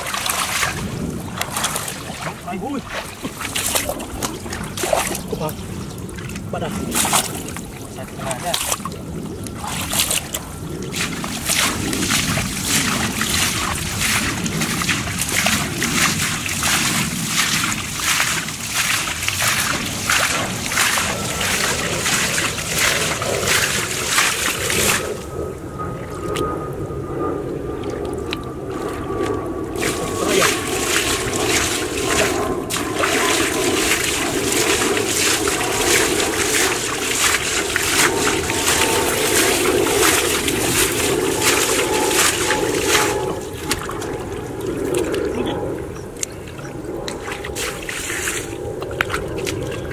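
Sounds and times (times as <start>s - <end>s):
feet splashing through muddy water: 0.0s - 25.4s, 27.8s - 49.9s.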